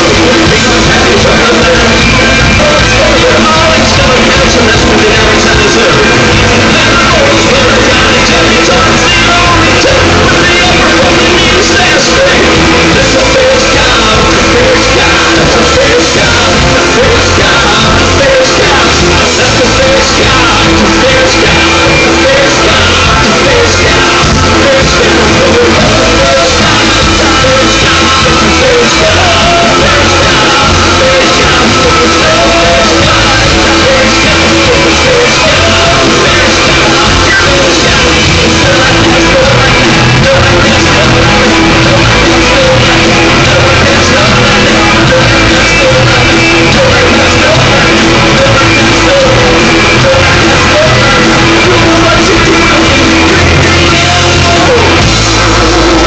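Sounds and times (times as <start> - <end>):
live rock band playing: 0.0 - 56.0
person singing and shouting: 0.0 - 56.0.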